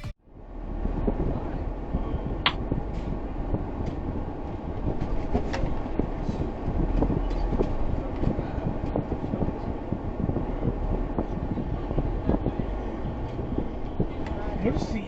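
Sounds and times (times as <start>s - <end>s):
vehicle road rumble: 0.0s - 15.0s.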